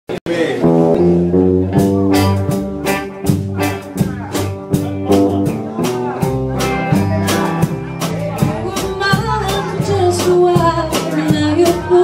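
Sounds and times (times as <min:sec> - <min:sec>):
guitar and bass chords: 0:00.3 - 0:12.0
drums steady beat: 0:00.6 - 0:12.0.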